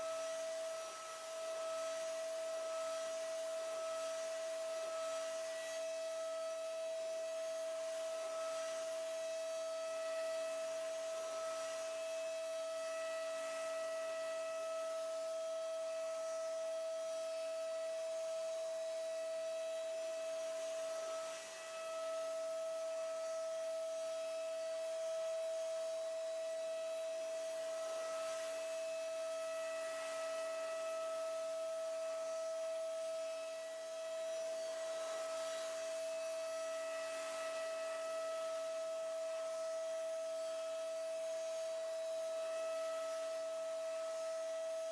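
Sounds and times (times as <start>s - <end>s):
milling spindle whine: 0.0s - 44.9s.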